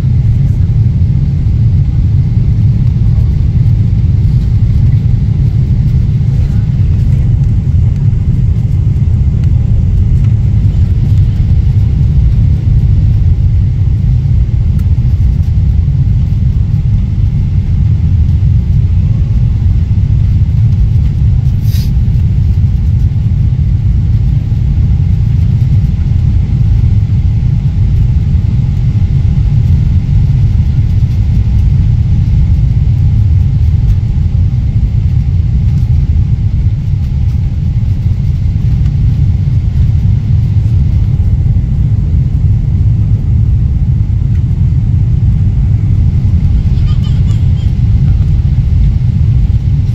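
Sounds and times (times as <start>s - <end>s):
airliner cabin engine rumble: 0.0s - 49.9s.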